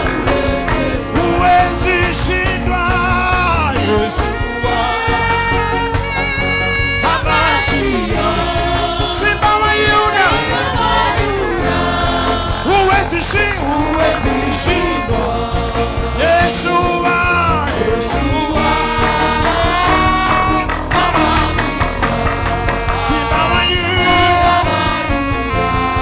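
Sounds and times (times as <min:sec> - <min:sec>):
bass and drums: 0:00.0 - 0:26.0
gospel band playing: 0:00.0 - 0:26.0
person singing: 0:00.0 - 0:26.0.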